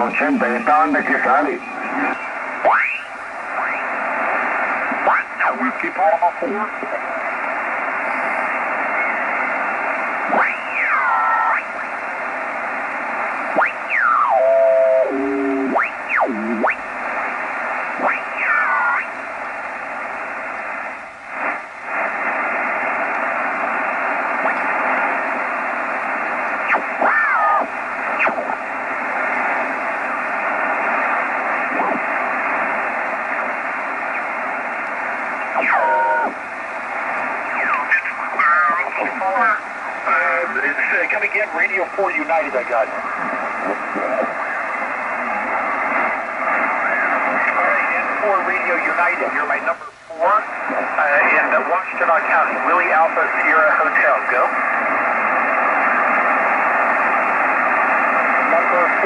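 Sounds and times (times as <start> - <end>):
radio signals sliding in pitch: 0.0 - 5.9, 6.6 - 19.2, 20.4 - 59.0
radio band noise hiss: 0.0 - 59.0.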